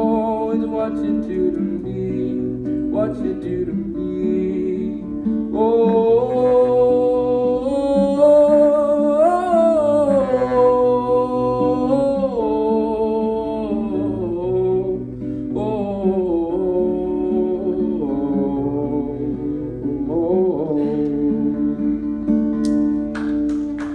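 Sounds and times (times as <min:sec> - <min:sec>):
person singing long notes: 0:00.0 - 0:22.0
acoustic guitar chords: 0:00.0 - 0:23.9.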